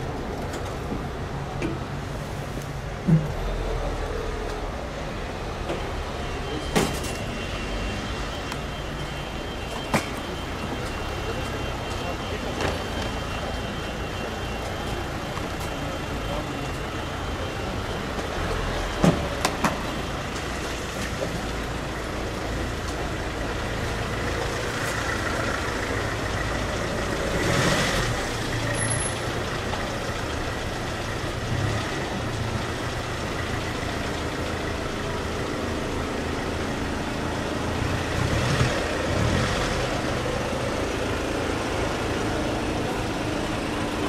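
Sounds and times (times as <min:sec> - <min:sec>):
low rumble of vehicle noise: 0:00.0 - 0:44.0.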